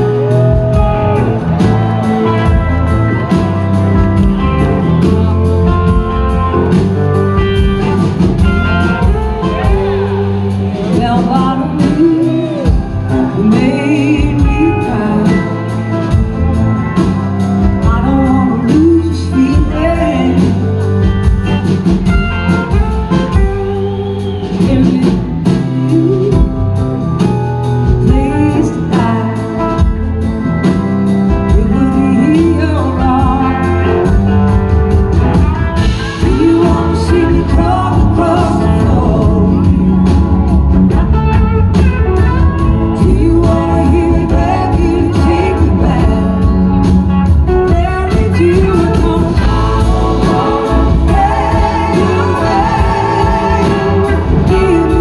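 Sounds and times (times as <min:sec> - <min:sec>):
woman singing lead: 0:00.0 - 0:06.8, 0:07.4 - 0:30.3, 0:31.3 - 0:34.7, 0:35.8 - 0:40.3, 0:42.2 - 0:55.0
bass and drums: 0:00.0 - 0:55.0
electric guitars: 0:00.0 - 0:55.0
slide electric guitar: 0:00.0 - 0:55.0.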